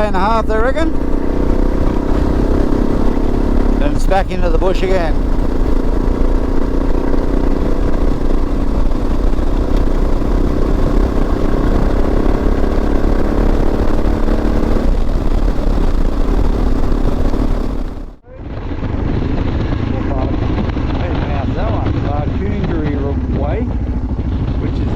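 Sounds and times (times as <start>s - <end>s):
motorcycle engine running: 0.0s - 24.9s
wind rumble on microphone: 0.0s - 24.9s.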